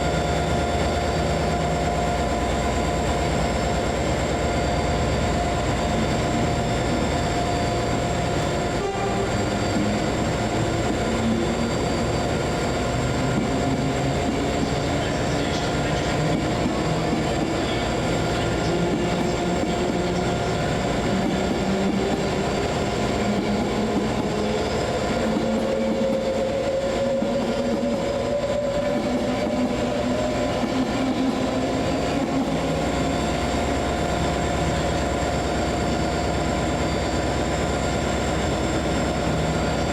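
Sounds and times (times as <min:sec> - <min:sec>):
train rumbling: 0:00.0 - 0:39.9
train whine rising in pitch: 0:00.0 - 0:39.9.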